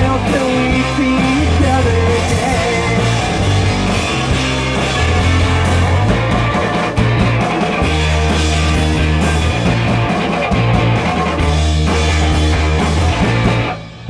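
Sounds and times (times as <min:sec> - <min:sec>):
bass line: 0:00.0 - 0:14.0
drum and cymbal hits: 0:00.0 - 0:14.0
guitar: 0:00.0 - 0:14.0.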